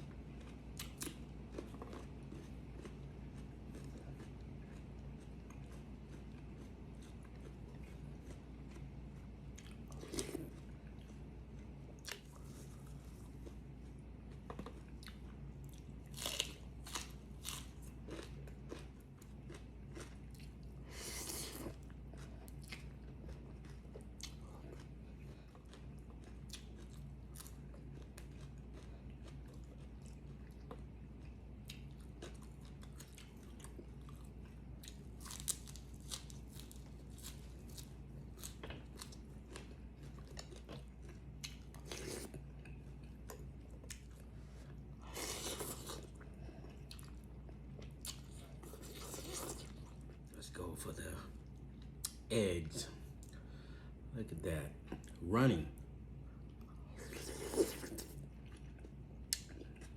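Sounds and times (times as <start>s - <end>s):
person chewing crunchy food: 0.0s - 50.4s, 56.4s - 59.9s
steady low hum: 0.0s - 59.9s.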